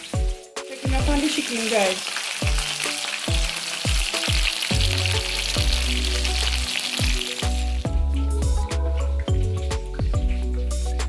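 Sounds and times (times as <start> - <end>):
background music with bass beat: 0.0 - 1.2, 2.4 - 11.0
chicken sizzling in hot oil: 0.0 - 11.0.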